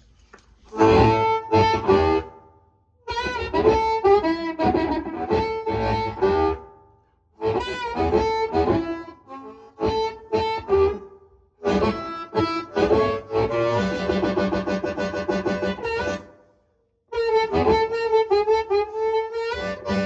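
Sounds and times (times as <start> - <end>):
blues harmonica: 0.7 - 2.4, 3.1 - 6.6, 7.4 - 16.4, 17.1 - 20.0.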